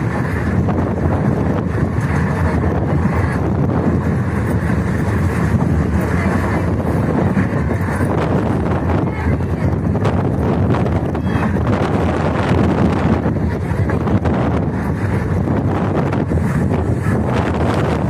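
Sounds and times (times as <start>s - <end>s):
train coach rumbling: 0.0s - 18.0s
wind buffeting microphone: 0.0s - 18.0s.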